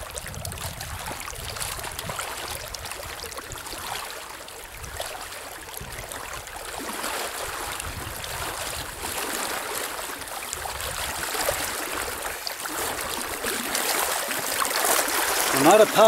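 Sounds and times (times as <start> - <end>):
river water rushing around legs: 0.0 - 16.0
small water splashes: 0.0 - 16.0.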